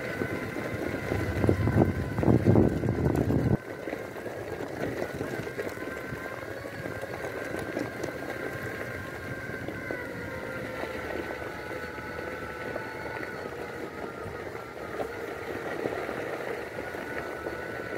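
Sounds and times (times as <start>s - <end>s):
electric motor whine: 0.0s - 17.9s.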